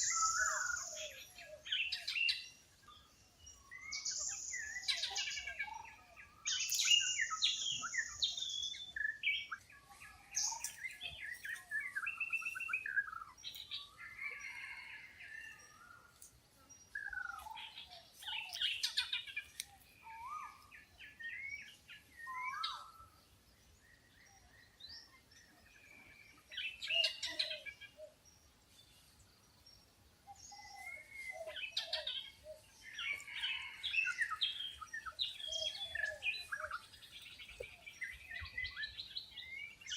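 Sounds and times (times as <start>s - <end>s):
wild birds chirping and singing: 0.0s - 39.9s.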